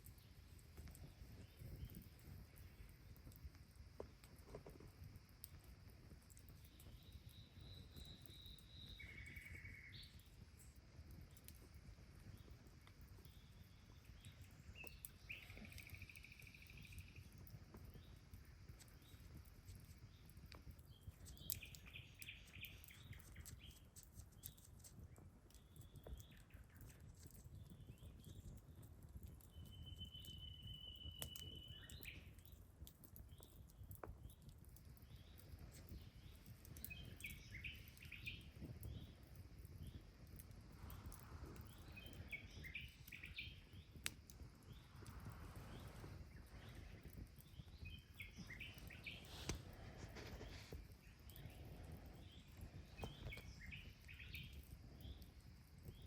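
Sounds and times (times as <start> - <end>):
campfire crackles: 0.0 - 56.0.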